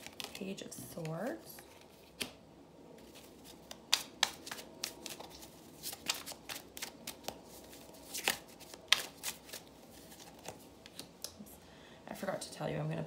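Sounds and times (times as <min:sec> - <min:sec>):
cards being shuffled: 0:00.0 - 0:02.4, 0:03.0 - 0:11.2.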